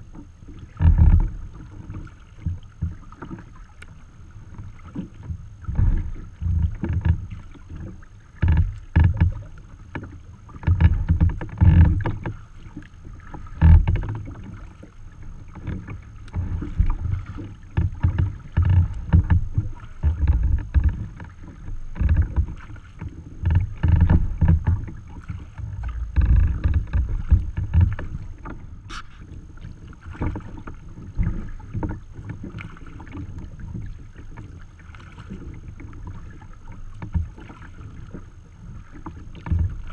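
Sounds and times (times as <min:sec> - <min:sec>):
water lapping against kayak hull: 0:00.0 - 0:39.9.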